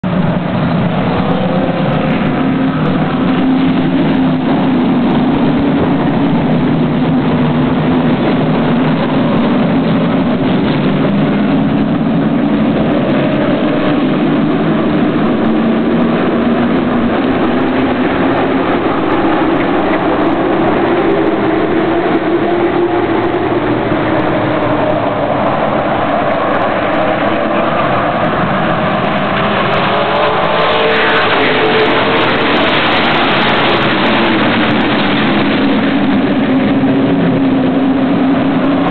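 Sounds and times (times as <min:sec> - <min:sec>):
race car engines running: 0:00.0 - 0:38.9.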